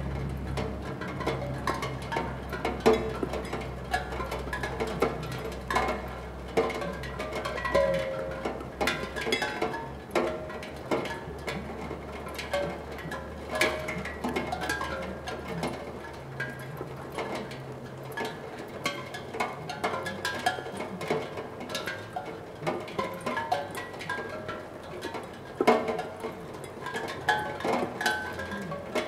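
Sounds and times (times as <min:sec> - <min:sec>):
rain noise: 0:00.0 - 0:29.0
raindrops ringing steel tongue drum: 0:00.1 - 0:29.0.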